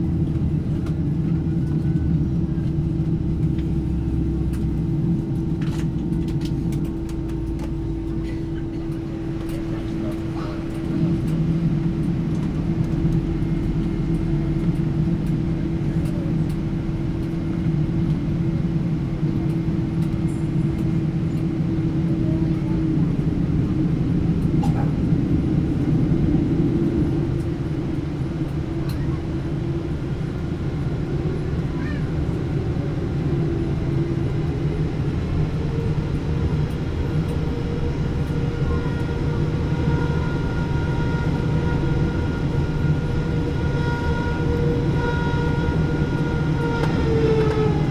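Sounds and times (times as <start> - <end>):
airplane cabin engine rumble: 0.0 - 47.9.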